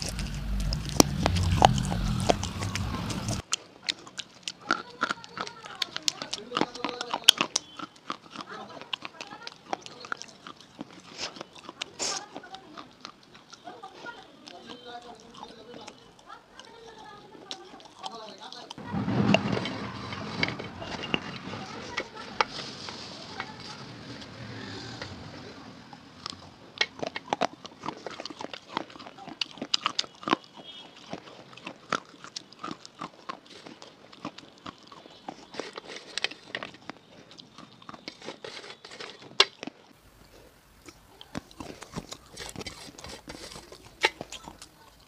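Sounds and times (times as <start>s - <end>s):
wet crunching of chewing: 0.0s - 18.8s, 20.8s - 45.0s.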